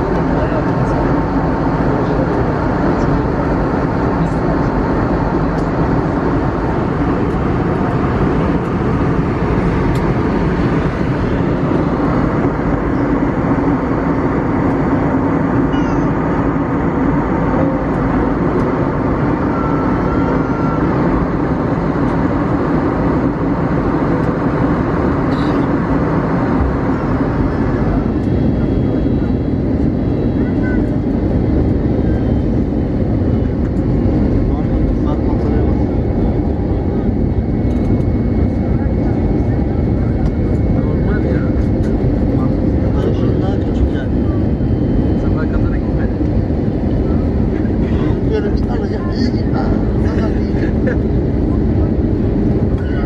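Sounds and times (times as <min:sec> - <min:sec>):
airplane cabin drone: 0:00.0 - 0:53.0.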